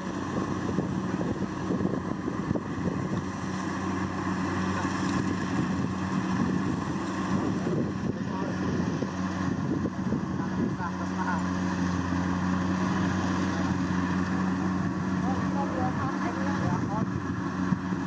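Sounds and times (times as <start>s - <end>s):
combine harvester engine drone: 0.0s - 18.0s.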